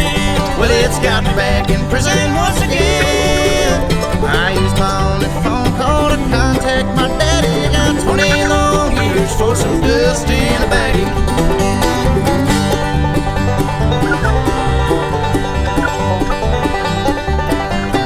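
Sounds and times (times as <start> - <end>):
instrumental bluegrass music: 0.0 - 18.0.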